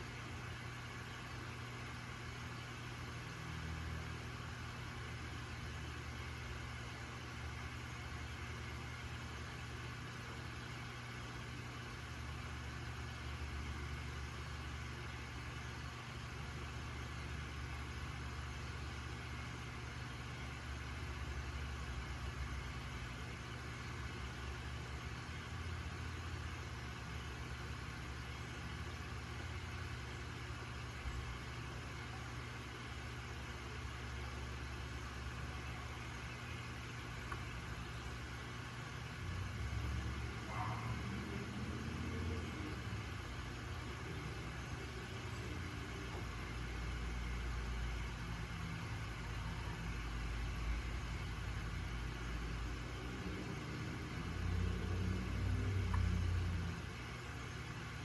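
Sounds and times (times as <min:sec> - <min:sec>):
aquarium pump hum: 0:00.0 - 0:58.0.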